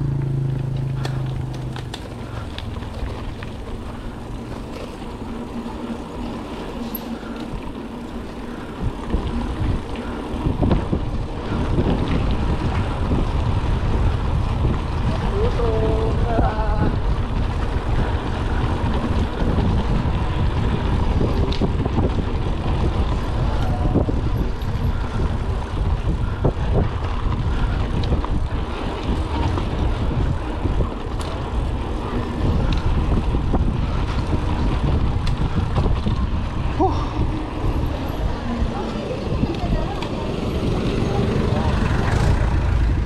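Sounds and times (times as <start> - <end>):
bike clicks and rattles: 0.0 - 43.0
wind buffeting microphone: 0.0 - 43.0.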